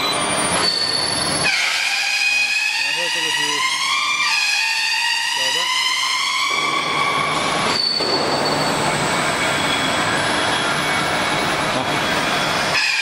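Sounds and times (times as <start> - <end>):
mixer rushing noise: 0.0 - 13.0.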